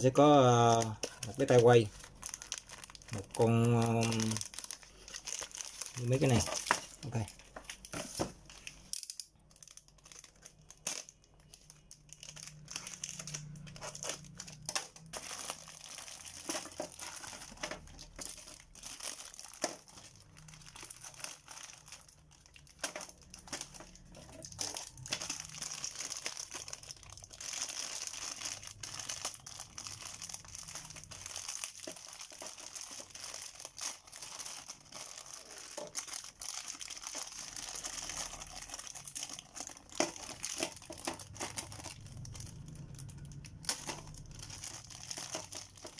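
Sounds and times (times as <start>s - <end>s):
plastic bags crinkling: 0.0s - 45.9s.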